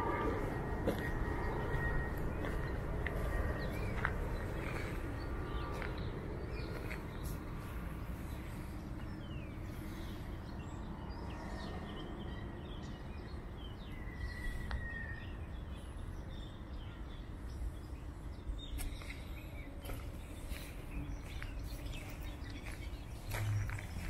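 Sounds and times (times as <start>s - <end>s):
low background rumble: 0.0s - 24.0s
small birds chirping: 0.1s - 24.0s.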